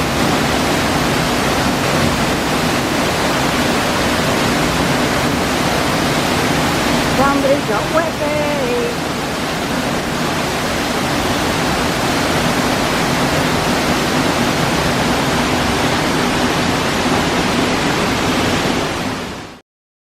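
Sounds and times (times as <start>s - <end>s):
waterfall rushing: 0.0s - 19.6s.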